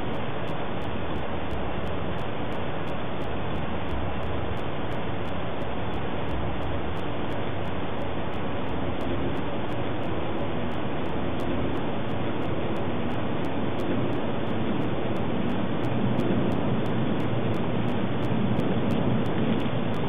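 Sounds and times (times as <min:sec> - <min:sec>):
steady static rushing noise: 0:00.0 - 0:20.0.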